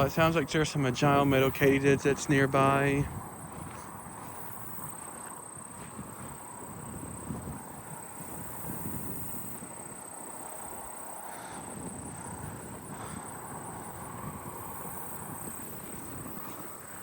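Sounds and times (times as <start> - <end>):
high-pitched insect buzz: 0.0 - 17.0
wind rumbling on microphone: 0.0 - 17.0.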